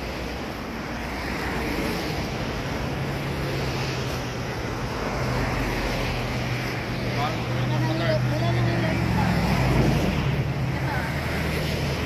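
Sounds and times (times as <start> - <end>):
cars driving past: 0.0 - 12.0.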